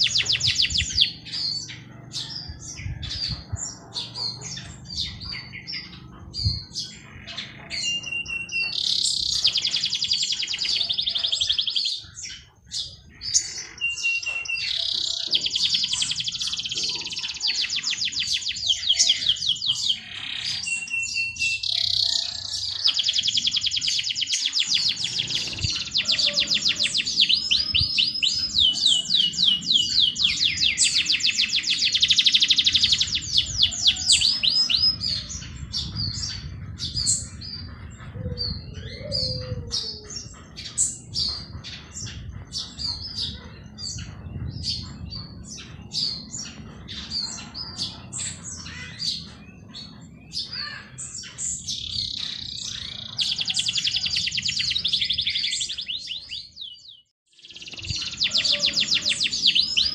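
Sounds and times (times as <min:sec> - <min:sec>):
songbird trilling and chattering: 0:00.0 - 0:59.9.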